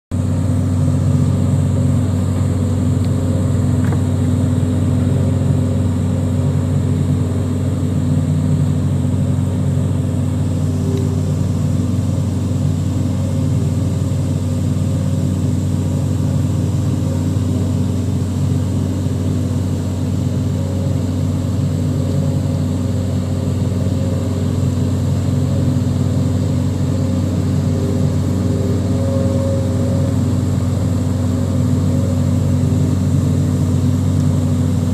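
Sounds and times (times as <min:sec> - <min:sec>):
machine engine humming: 0:00.1 - 0:34.9.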